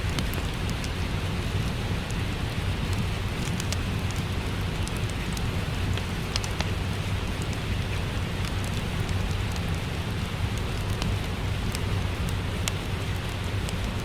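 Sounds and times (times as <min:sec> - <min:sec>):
steady rain: 0:00.0 - 0:14.0
wood fire crackles: 0:00.0 - 0:14.0.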